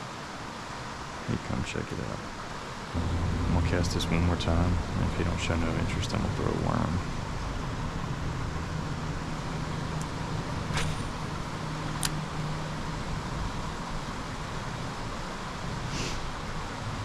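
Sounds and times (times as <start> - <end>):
road noise: 0.0 - 17.0
vehicle engine hum: 1.2 - 17.0.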